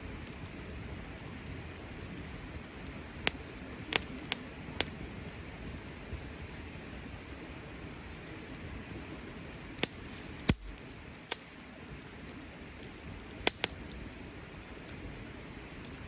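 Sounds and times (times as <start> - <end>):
campfire hissing: 0.0 - 16.0
wood popping in fire: 0.0 - 16.0.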